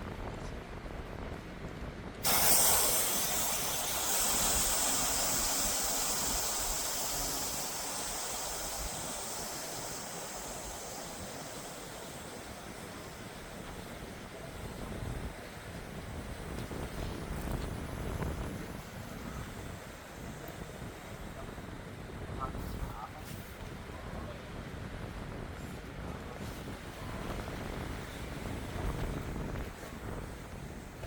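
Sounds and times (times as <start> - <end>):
low wind rumble: 0.0 - 31.0
air hissing out of inflatable beam: 2.2 - 23.7, 26.4 - 31.0.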